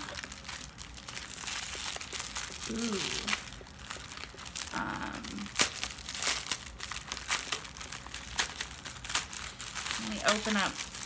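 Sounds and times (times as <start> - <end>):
plastic packaging rustling: 0.0 - 11.0.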